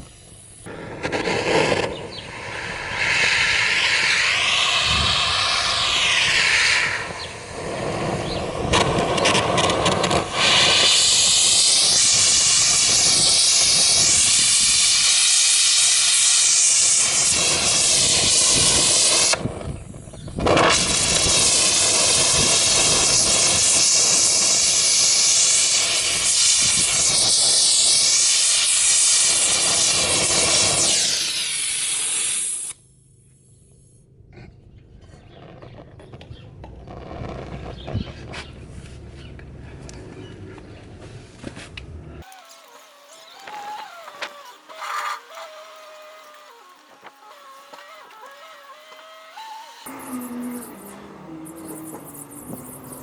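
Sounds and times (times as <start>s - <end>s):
gas torch flame hissing: 0.0s - 32.8s, 42.2s - 53.0s.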